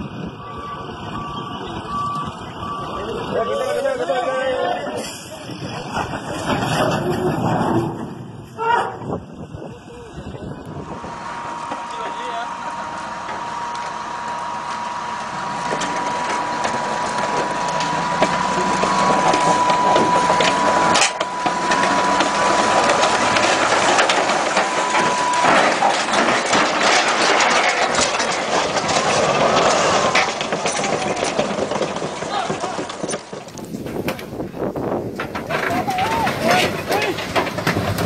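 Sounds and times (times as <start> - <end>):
tracked vehicle engine whine: 0.0 - 38.0
tracks grinding on steel deck: 4.8 - 8.6, 10.6 - 38.0.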